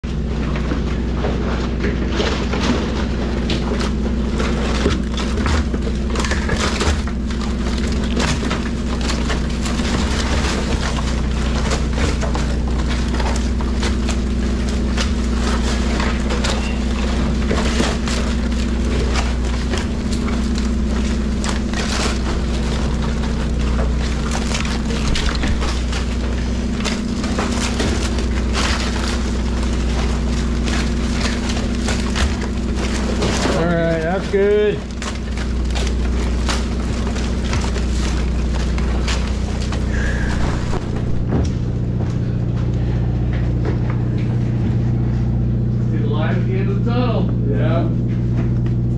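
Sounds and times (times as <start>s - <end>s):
low machinery drone: 0.0s - 48.9s
crab shells clattering: 1.0s - 41.6s.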